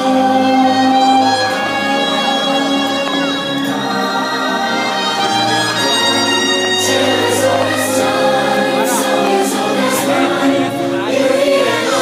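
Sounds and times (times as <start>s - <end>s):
orchestral music with choir: 0.0s - 12.0s.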